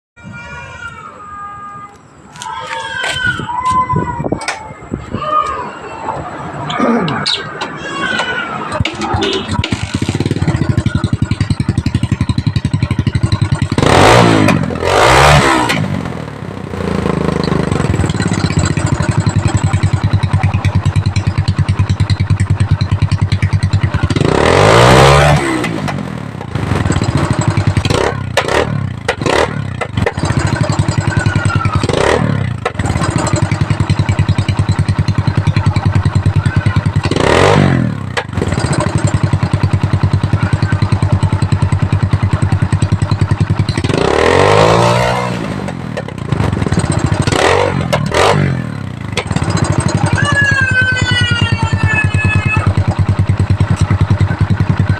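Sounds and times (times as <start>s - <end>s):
motorcycle idling and revving: 6.2s - 54.9s.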